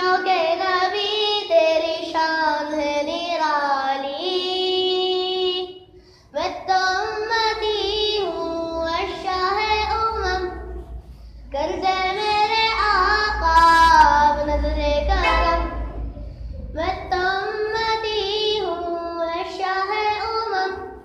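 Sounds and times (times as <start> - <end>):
high voice singing devotional song: 0.0 - 21.0.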